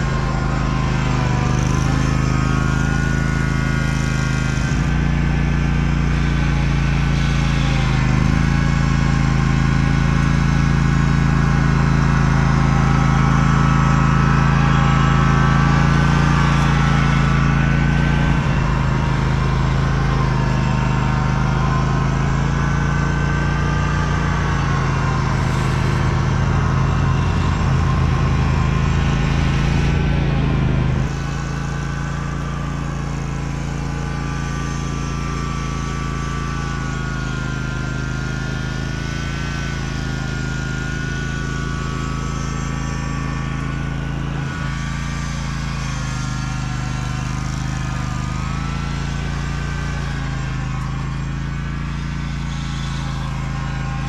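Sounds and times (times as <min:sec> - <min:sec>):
mower engine running: 0:00.0 - 0:54.0.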